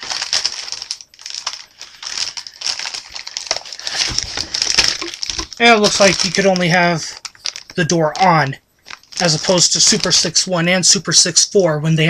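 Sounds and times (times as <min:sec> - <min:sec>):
plastic bags and paper crinkling: 0:00.0 - 0:10.4.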